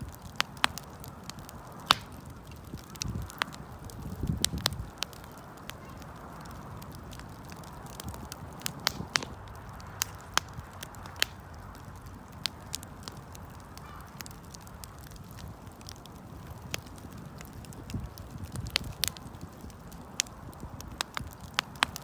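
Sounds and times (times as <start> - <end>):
campfire crackling: 0.0 - 22.0
fire pops and snaps: 0.0 - 22.0.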